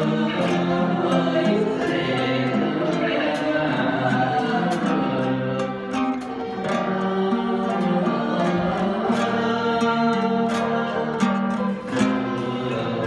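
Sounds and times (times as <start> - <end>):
man singing through a microphone: 0.0 - 13.0
struck and plucked string instruments: 0.0 - 13.0.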